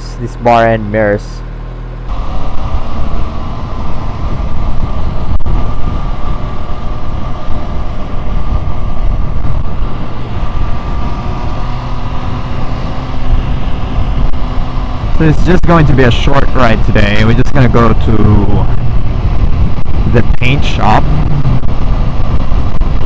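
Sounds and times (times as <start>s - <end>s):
motorcycle engine running: 0.0s - 23.0s
wind rush on microphone: 2.1s - 23.0s.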